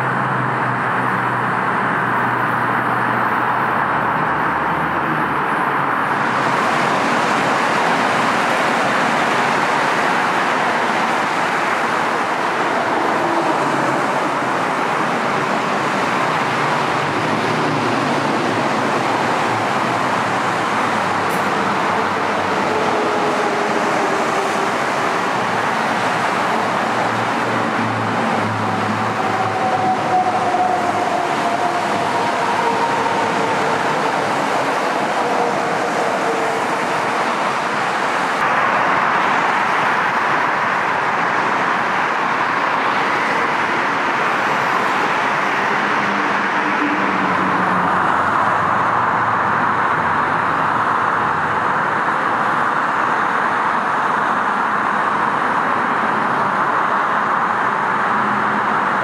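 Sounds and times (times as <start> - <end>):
freeway traffic rushing: 0.0 - 59.0.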